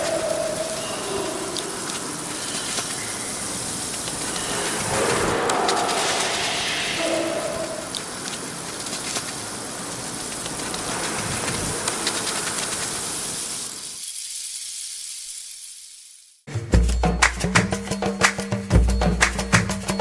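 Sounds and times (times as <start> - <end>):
steady hiss: 0.0 - 16.5.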